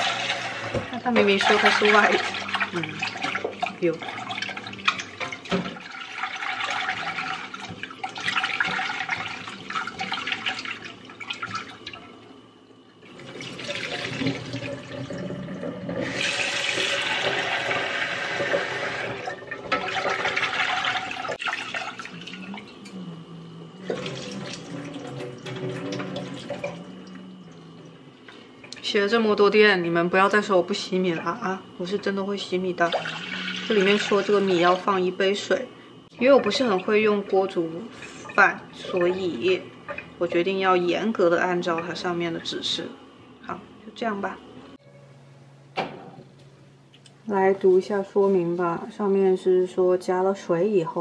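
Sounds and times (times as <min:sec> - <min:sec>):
kitchen tap running: 0:00.0 - 0:23.0, 0:23.8 - 0:29.6, 0:30.2 - 0:42.8.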